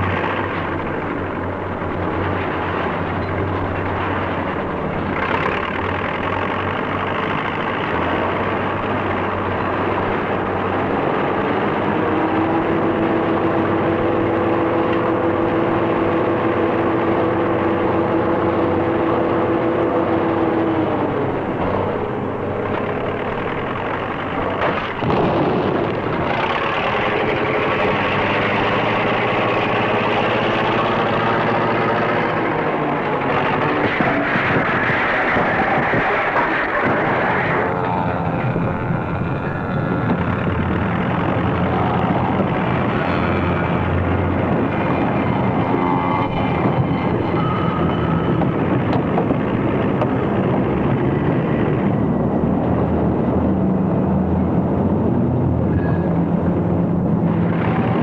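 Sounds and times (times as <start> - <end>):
heavy engines running: 0.0 - 58.0
steady droning tone: 0.0 - 58.0.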